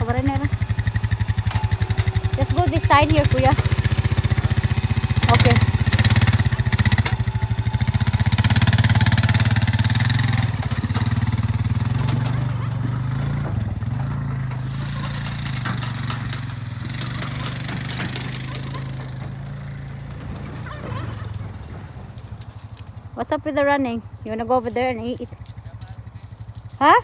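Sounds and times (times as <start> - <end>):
small vehicle engine driving off: 0.0 - 27.0.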